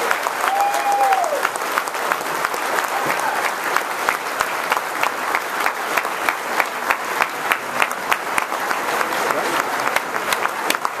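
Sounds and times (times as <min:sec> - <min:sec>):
audience applauding: 0:00.0 - 0:11.0
nearby hands clapping: 0:00.0 - 0:11.0.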